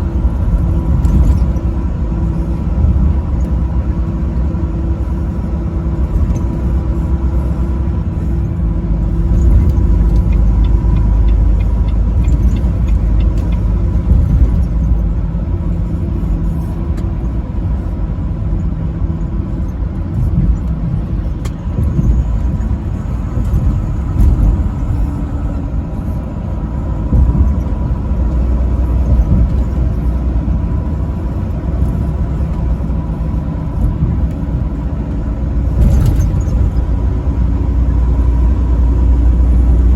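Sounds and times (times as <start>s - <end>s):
diesel truck engine drone: 0.0s - 39.9s
heavy road rumble: 0.0s - 39.9s.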